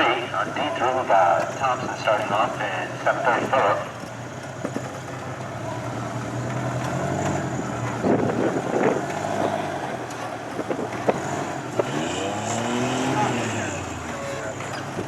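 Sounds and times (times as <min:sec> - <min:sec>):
rock crawler engine running: 0:00.0 - 0:15.0.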